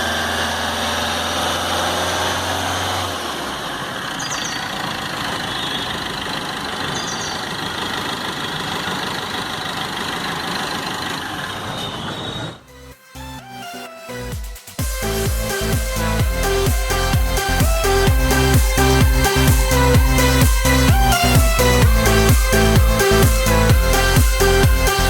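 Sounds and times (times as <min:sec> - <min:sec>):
low engine hum: 0:00.0 - 0:12.8, 0:14.8 - 0:25.0
diesel engine idling: 0:00.0 - 0:12.9, 0:14.8 - 0:25.0.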